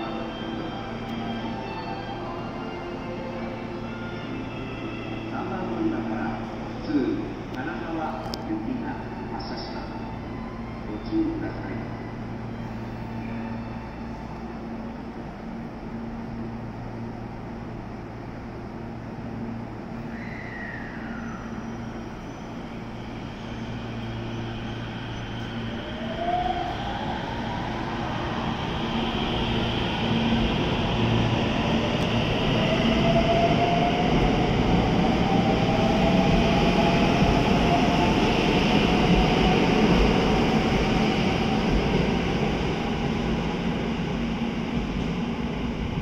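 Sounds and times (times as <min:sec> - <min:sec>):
train hum at standstill: 0:00.0 - 0:46.0.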